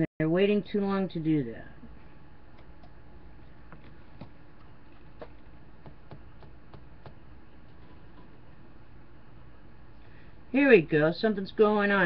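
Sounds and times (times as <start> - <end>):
low background hiss: 0.2 - 12.0.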